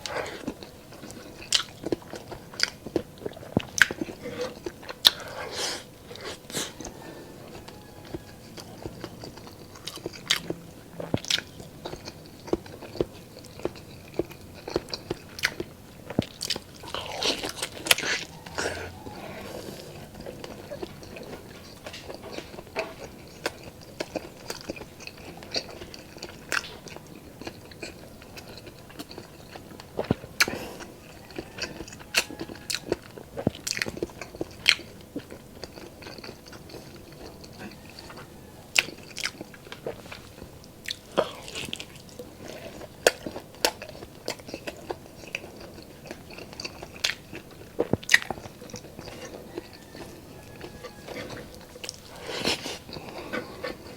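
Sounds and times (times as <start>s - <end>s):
person chewing and biting food: 0.0s - 53.9s.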